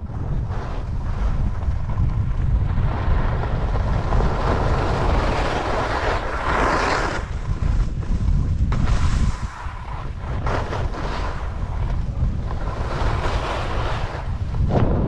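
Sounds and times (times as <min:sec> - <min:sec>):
wind rushing over microphone: 0:00.0 - 0:15.0
skis hissing and scraping on snow: 0:00.1 - 0:14.7.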